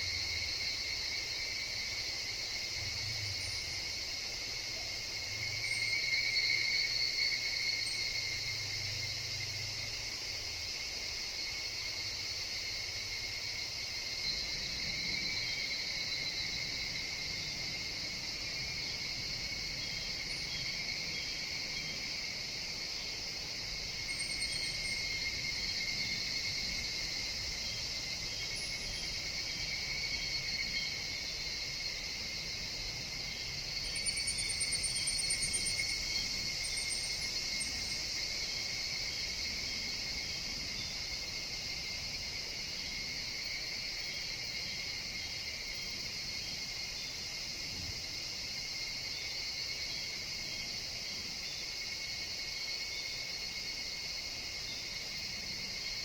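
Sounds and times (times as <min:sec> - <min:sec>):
cicadas shrilling: 0:00.0 - 0:56.0
high insect chirps: 0:00.0 - 0:56.0.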